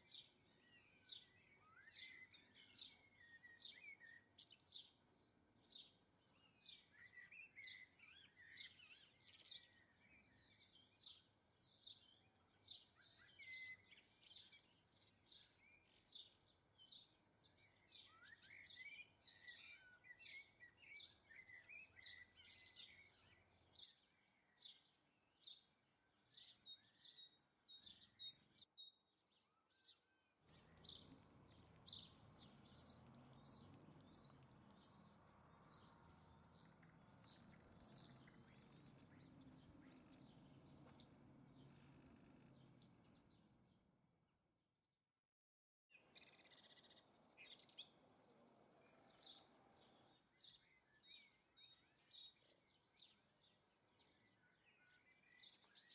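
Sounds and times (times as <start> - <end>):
songbirds chirping: 0.0 - 44.2, 45.9 - 55.9.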